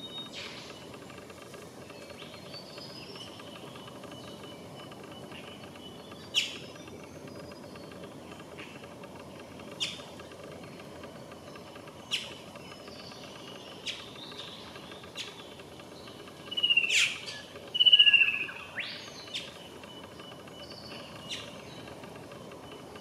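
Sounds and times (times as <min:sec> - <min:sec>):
bird chip notes and trills: 0:00.0 - 0:23.0.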